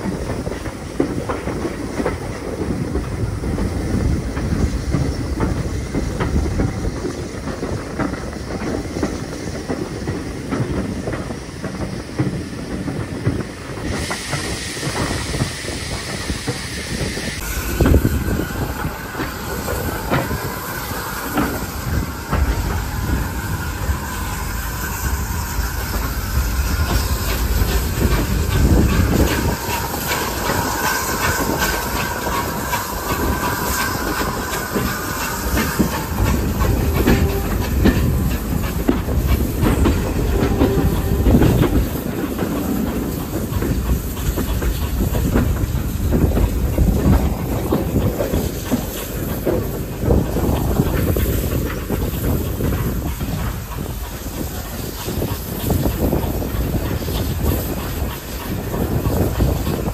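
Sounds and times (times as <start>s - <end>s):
steam hissing: 0.0s - 59.9s
wheels clattering on rails: 0.0s - 59.9s.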